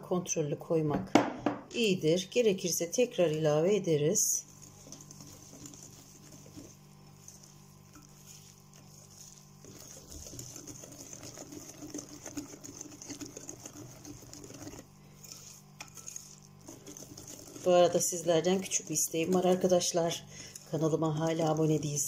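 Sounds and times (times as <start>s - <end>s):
whisk beating batter in glass bowl: 1.8s - 22.0s.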